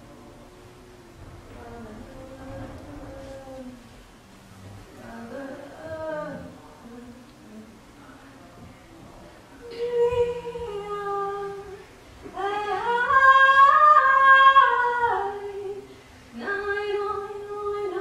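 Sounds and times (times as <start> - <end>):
woman singing a cappella: 0.4 - 4.0, 4.9 - 7.8, 9.6 - 18.0.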